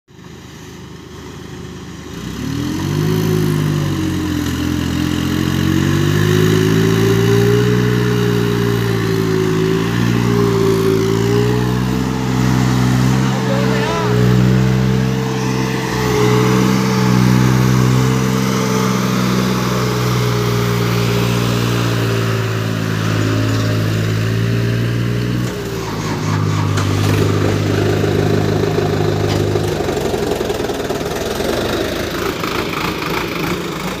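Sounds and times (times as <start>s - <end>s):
diesel tractor engine running: 0.2s - 34.0s.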